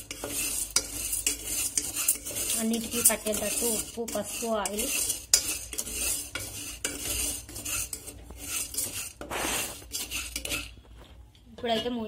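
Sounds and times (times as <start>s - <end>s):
wooden spatula scraping a pot: 0.0s - 12.0s.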